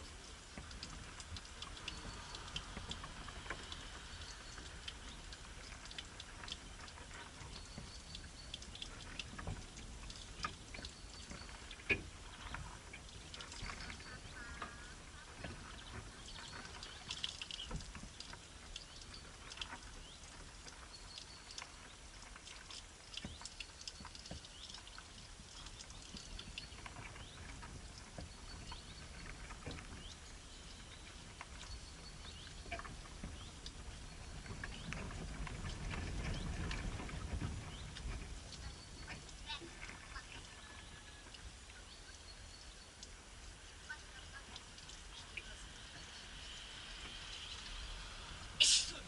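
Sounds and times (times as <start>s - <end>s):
light taps and rustles: 0.0s - 40.6s.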